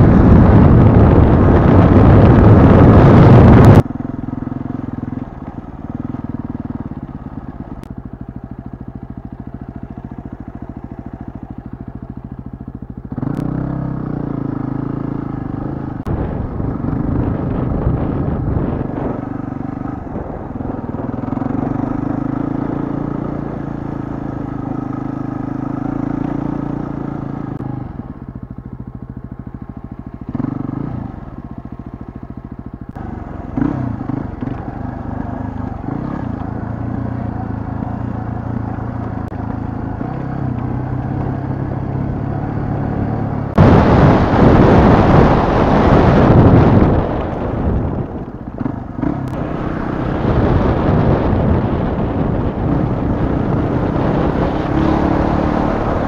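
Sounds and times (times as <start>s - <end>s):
wind buffeting microphone: 0.0s - 5.2s, 11.0s - 56.0s
motorcycle engine revving: 0.0s - 56.0s.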